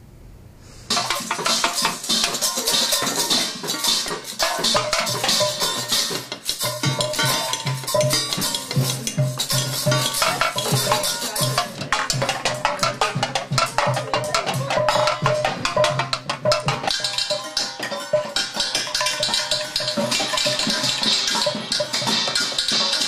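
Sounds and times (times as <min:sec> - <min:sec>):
fast percussion strikes: 0:00.9 - 0:23.0
shakers rattling: 0:00.9 - 0:23.0.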